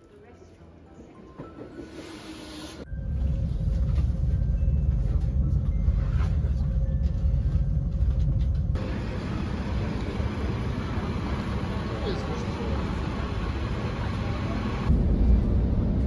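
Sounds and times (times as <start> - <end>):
outdoor street noise: 0.0 - 16.0
train rumble inside carriage: 1.4 - 16.0.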